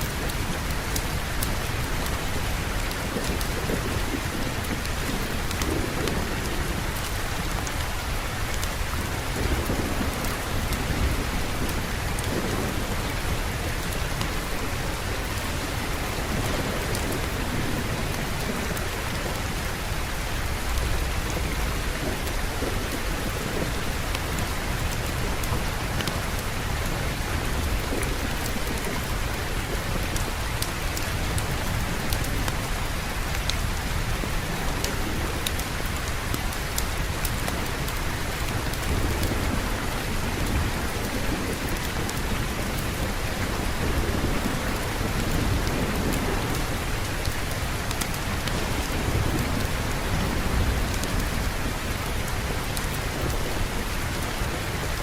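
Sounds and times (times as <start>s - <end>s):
distant thunder rumble: 0.0s - 55.0s
heavy rain: 0.0s - 55.0s.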